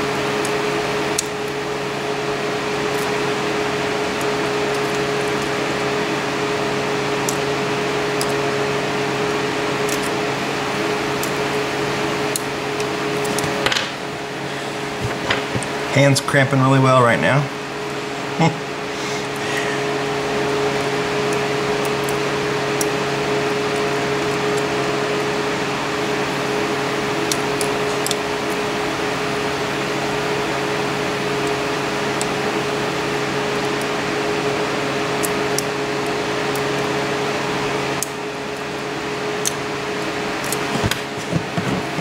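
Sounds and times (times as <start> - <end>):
fan motor hum: 0.0 - 42.0.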